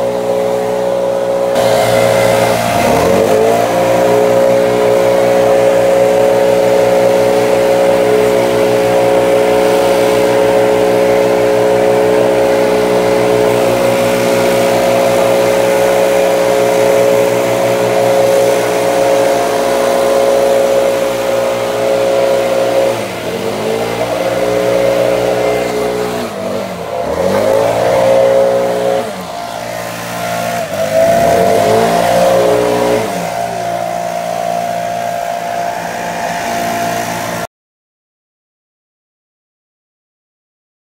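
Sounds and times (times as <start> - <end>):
leaf blower engine revving: 0.0 - 37.5.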